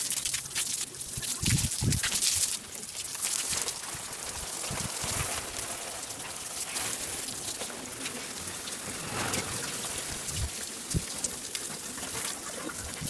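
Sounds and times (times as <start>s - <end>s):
hose spraying water on leaves: 0.0s - 13.0s.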